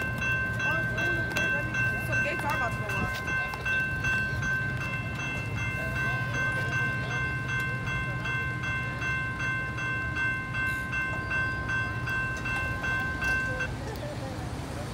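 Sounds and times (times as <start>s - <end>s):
railroad crossing bell ringing: 0.0s - 14.6s.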